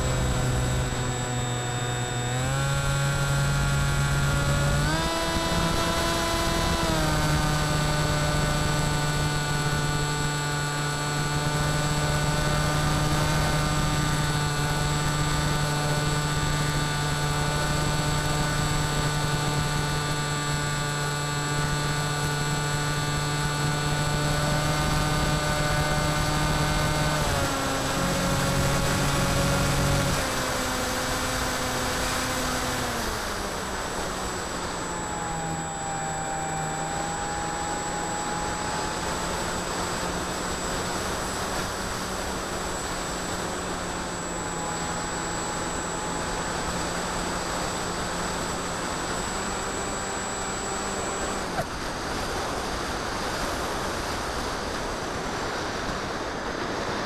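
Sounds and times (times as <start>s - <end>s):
electric motor buzzing whine: 0.0s - 57.0s
rushing wind: 0.0s - 57.0s.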